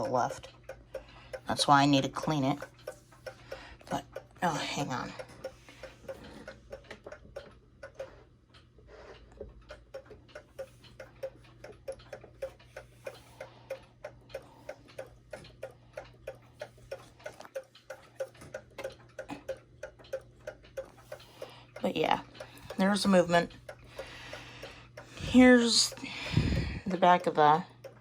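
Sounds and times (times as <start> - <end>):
mantel clock ticking: 0.0 - 28.0.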